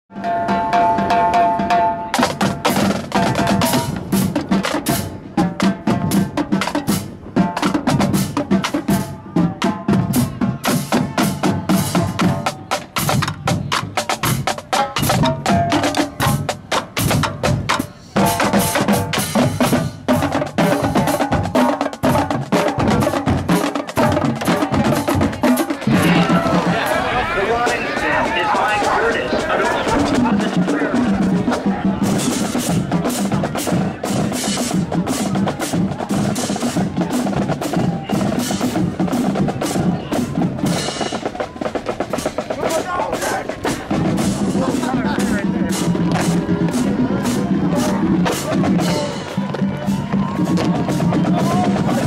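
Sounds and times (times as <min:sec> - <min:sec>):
marching drumline playing: 0:00.1 - 0:52.0.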